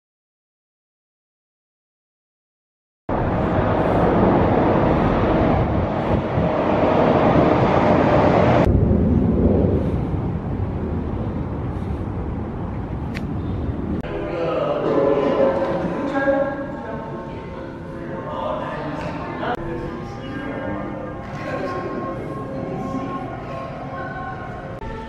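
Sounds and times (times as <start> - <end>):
outdoor background noise: 3.1 - 25.0.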